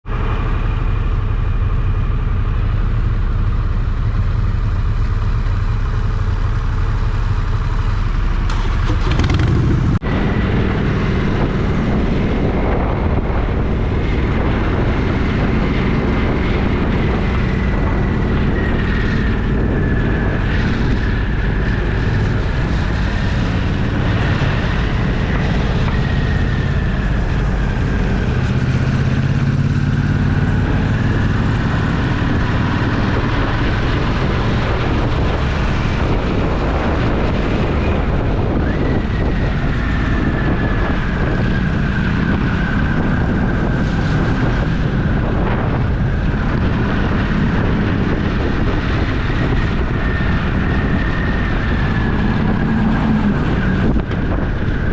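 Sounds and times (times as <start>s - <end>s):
motorcycle engine running: 0.0s - 54.9s
road and wind noise: 0.0s - 54.9s.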